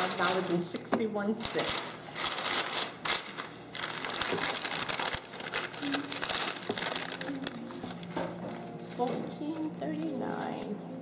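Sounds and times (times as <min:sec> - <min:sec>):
paper bag rustling and crinkling: 0:00.0 - 0:10.3.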